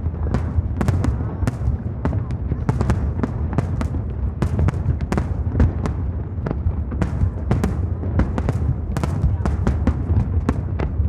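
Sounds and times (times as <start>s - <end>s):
continuous low rumble: 0.0s - 11.0s
fireworks bangs and cracks: 0.0s - 11.0s.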